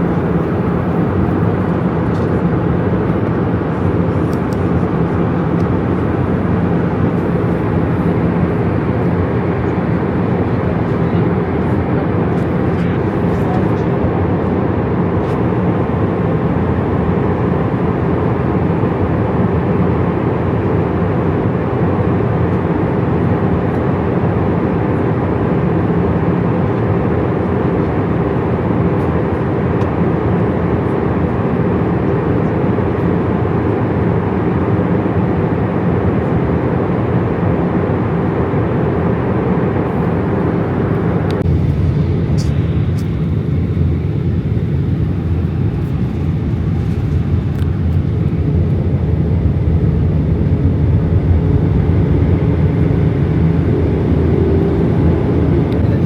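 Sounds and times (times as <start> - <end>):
airliner cabin jet engine rush: 0.0 - 56.0
low engine hum: 0.0 - 56.0.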